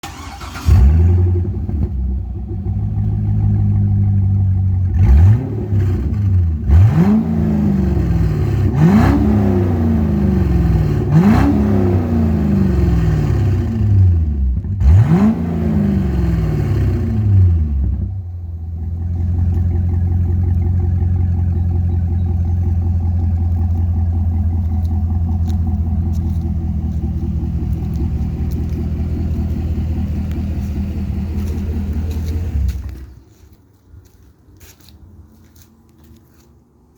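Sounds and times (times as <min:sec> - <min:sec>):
car engine revving: 0:00.0 - 0:18.1, 0:18.7 - 0:33.1
car engine starting and idling: 0:00.0 - 0:34.3.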